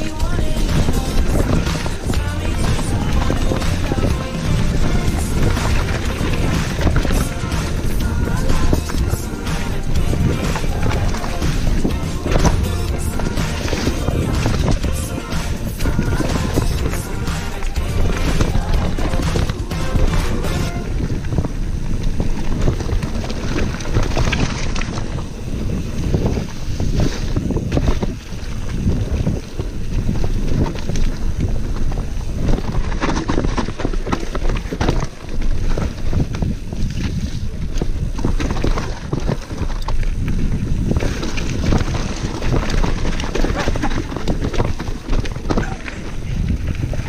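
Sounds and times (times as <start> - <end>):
bike knocking and rattling: 0.0 - 47.0
tyres rumbling on dirt: 0.0 - 47.0
wind rushing over microphone: 0.0 - 47.0.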